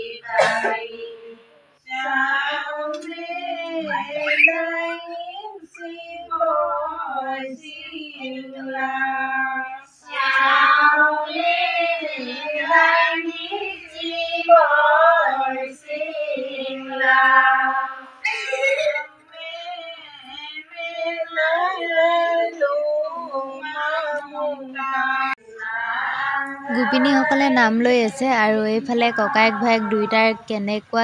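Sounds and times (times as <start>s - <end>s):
women singing devotional song: 0.0s - 31.0s.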